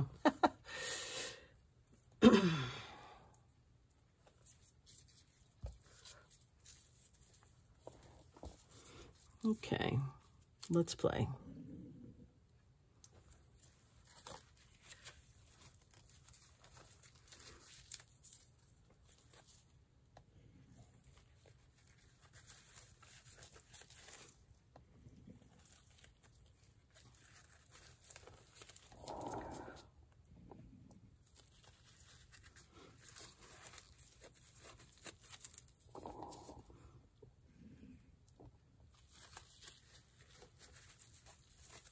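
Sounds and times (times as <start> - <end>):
plastic gloves crinkling: 3.6 - 11.3, 12.6 - 36.8, 38.2 - 41.9.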